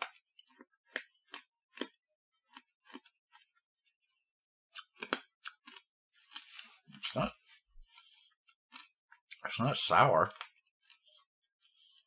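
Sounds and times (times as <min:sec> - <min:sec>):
wet mouth clicks of chewing: 0:00.0 - 0:09.5, 0:10.3 - 0:12.0.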